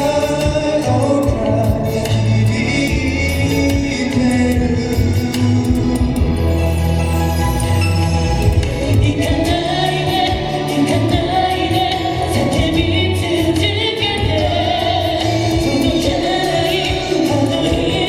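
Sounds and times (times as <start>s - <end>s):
male group singing: 0.0s - 6.0s, 8.8s - 18.0s
bass and drums backing track: 0.0s - 18.0s.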